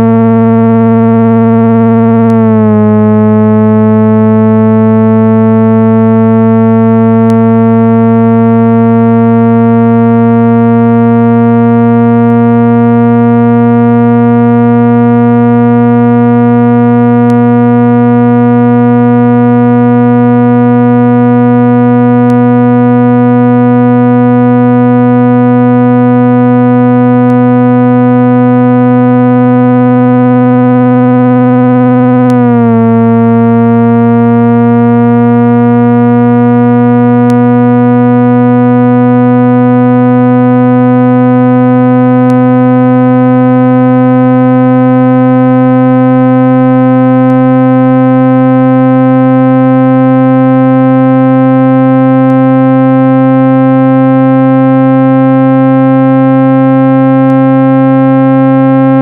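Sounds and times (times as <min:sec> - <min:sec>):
buzzy synthesized tone: 0:00.0 - 0:59.0.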